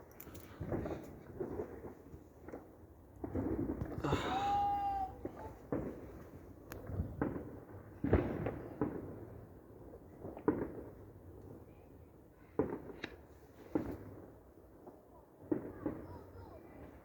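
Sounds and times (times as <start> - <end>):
fireworks bangs: 0.6 - 11.1, 12.4 - 17.0.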